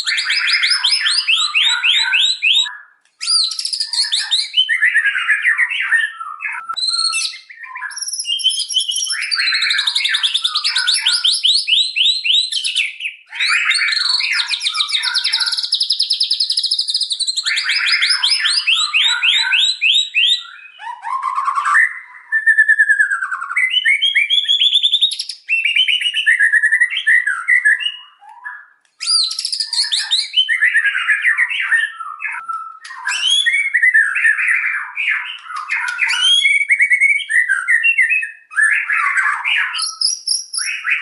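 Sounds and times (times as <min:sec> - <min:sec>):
songbird whistles and trills: 0:00.0 - 0:41.0.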